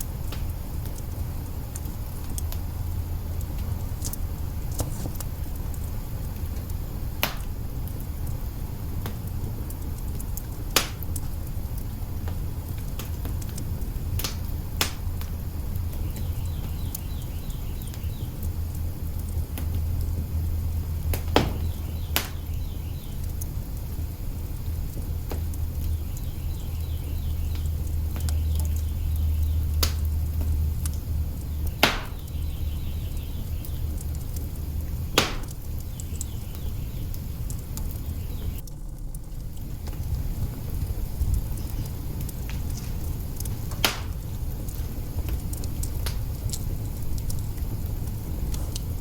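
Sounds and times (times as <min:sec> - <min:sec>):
sharp pops of fire: 0:00.0 - 0:49.0
wood fire crackling: 0:00.0 - 0:49.0.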